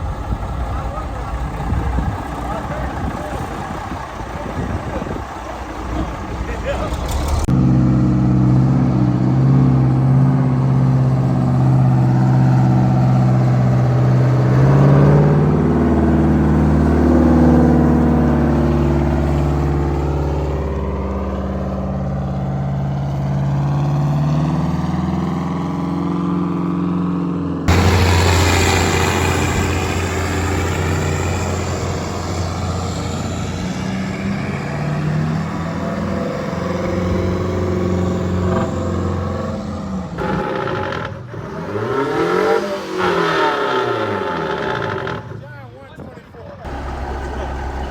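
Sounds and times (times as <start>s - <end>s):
truck engines driving by: 0.0s - 47.9s.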